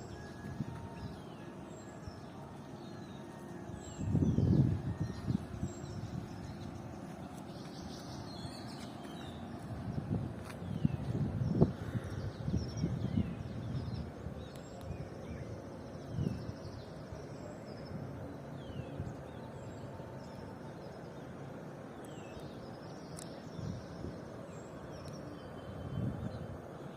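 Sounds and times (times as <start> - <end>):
outdoor background noise: 0.0 - 26.9.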